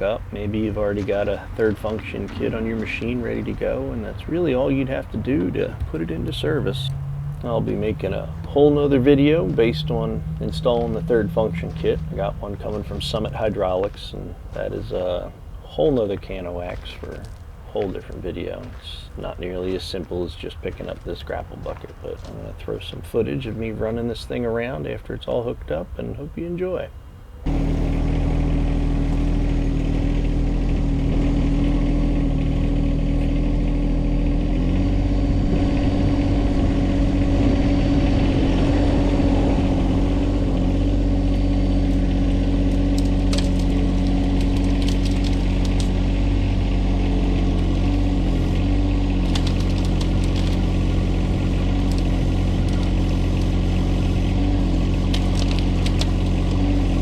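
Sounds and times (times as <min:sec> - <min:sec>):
tractor engine running: 0:00.0 - 0:24.0, 0:27.4 - 0:57.0.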